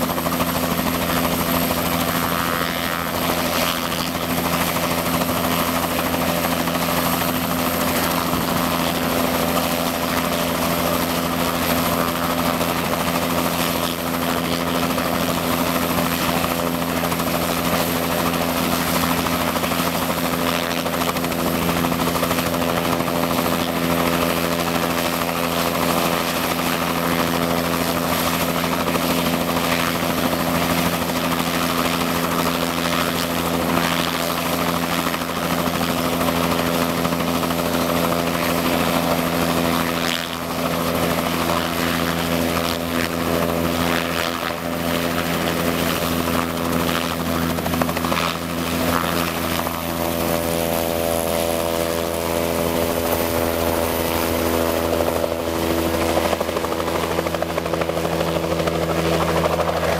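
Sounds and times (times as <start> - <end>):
helicopter rotors and engine drone: 0.0 - 59.9.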